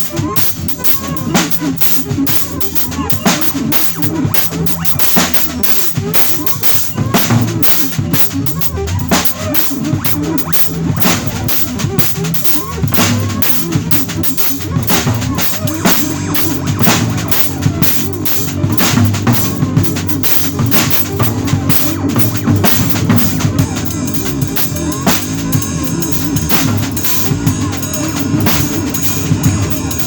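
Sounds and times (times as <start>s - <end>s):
bass line: 0.0s - 30.0s
drum kit playing: 0.0s - 30.0s.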